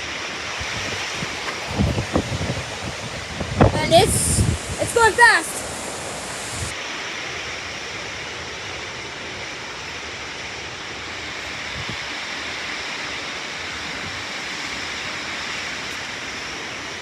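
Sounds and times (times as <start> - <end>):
storm wind rushing through trees: 0.0 - 17.0.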